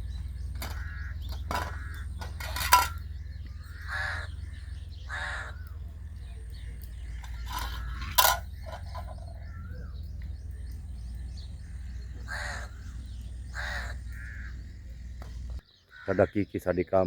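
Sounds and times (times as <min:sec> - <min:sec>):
steady low rumble: 0:00.0 - 0:15.6
crows cawing: 0:00.0 - 0:16.6
bird chirps: 0:00.0 - 0:17.0.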